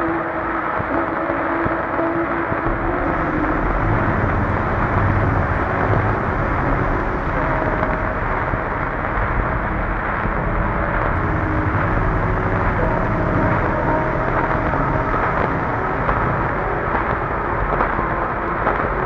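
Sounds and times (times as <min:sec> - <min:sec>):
dark ambient music: 0:00.0 - 0:19.0.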